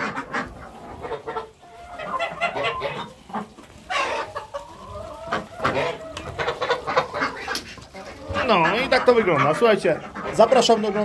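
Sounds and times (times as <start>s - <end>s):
hens clucking: 0.0s - 11.0s
long drawn-out poultry calls: 0.0s - 11.0s.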